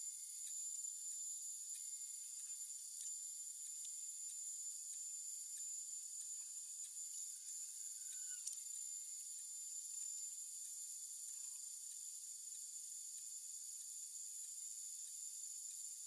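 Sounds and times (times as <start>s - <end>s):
faint tick: 0.0s - 16.0s.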